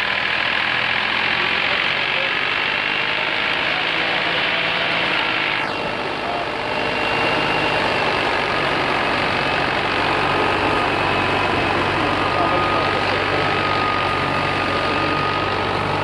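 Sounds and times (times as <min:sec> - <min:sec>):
paddy thresher running: 0:00.0 - 0:16.0.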